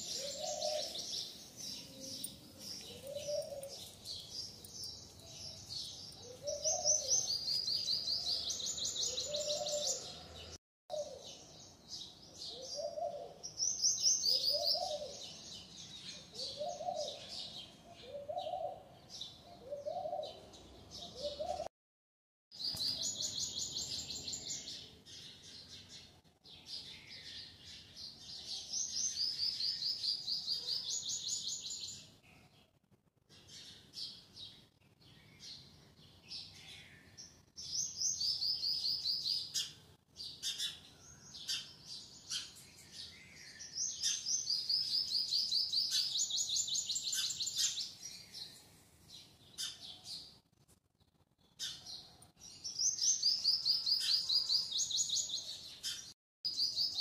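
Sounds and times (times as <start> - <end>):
small birds chirping: 0.0 - 21.7, 22.5 - 57.0.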